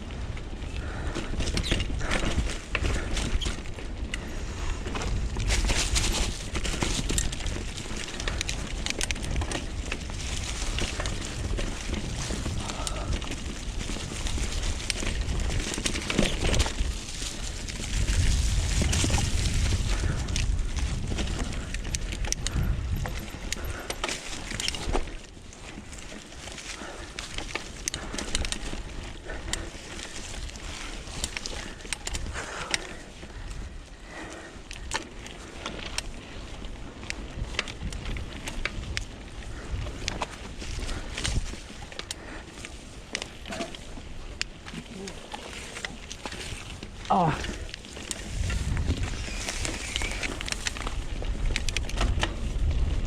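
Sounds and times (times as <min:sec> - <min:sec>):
bike rattling over bumps: 0:00.0 - 0:53.0
tyres rolling over dirt and stones: 0:00.0 - 0:53.0
wind buffeting microphone: 0:00.0 - 0:53.0.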